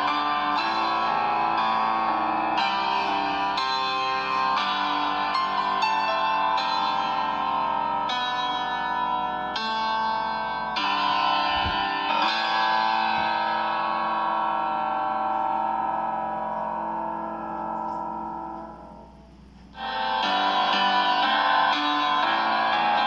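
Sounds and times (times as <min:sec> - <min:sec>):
instrumental music with held chords: 0:00.0 - 0:23.0.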